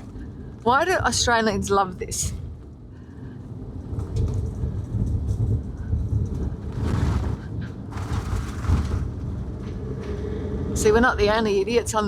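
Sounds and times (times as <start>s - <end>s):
road rumble inside vehicle: 0.0s - 12.0s.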